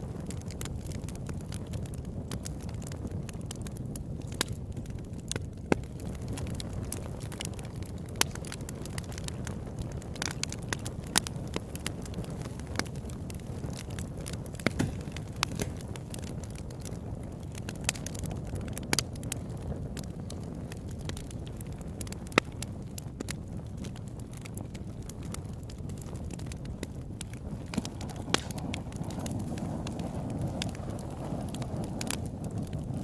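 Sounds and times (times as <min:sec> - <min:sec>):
campfire rumbling: 0:00.0 - 0:33.0
fire crackling and popping: 0:00.0 - 0:33.0.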